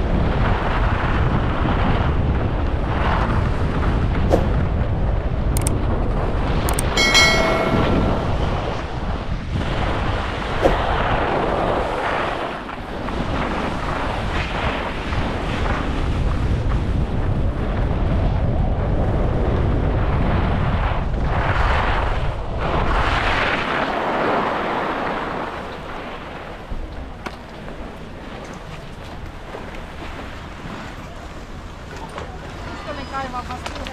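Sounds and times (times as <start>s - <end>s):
wind rumble on microphone: 0.0s - 33.9s.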